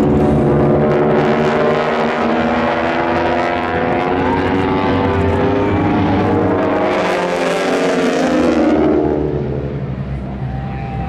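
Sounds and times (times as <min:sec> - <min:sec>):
radial piston engine droning: 0:00.0 - 0:09.6.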